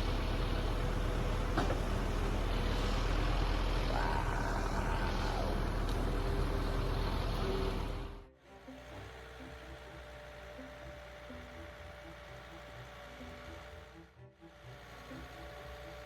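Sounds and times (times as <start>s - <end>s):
steady whine: 0.0s - 13.9s
truck engine running: 0.0s - 16.0s.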